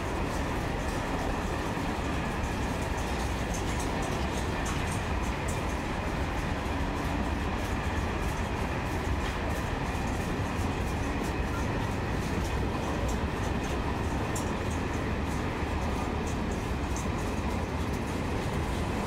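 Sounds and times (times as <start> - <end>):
steel wheels rumbling on rails: 0.0 - 19.0.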